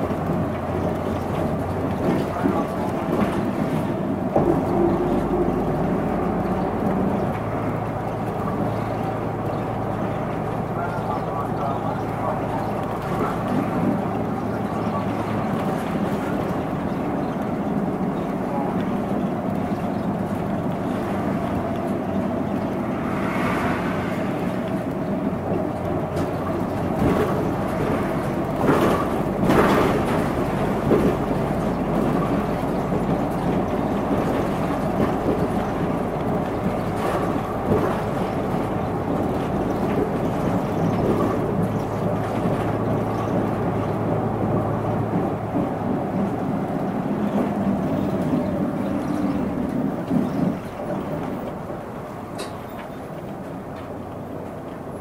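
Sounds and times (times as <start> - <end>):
bus body rattling: 0.0 - 55.0
diesel bus engine: 0.0 - 55.0
road rumble: 0.0 - 55.0.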